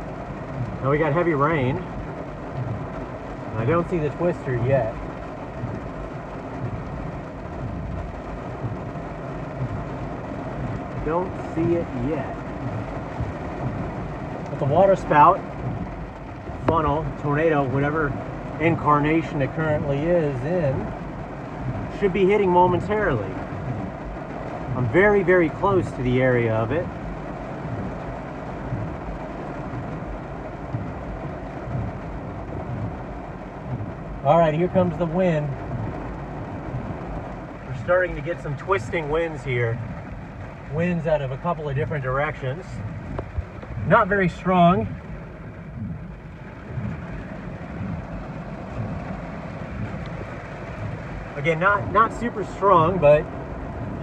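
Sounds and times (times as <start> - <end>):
heavy rain on a car roof: 0.0 - 54.0
low rumble: 0.0 - 54.0.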